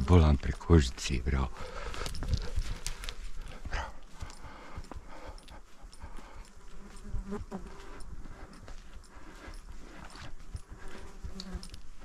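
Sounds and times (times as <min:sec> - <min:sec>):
hoof thuds on grassy ground: 0:00.0 - 0:12.0.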